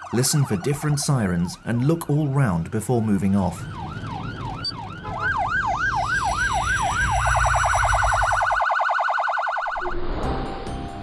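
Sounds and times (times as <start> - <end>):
emergency sirens wailing: 0.0 - 10.0.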